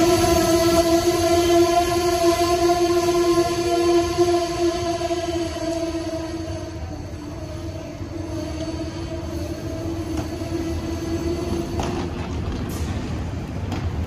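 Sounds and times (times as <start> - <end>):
low rail rumble: 0.0 - 14.0
steady train whine: 0.0 - 14.0.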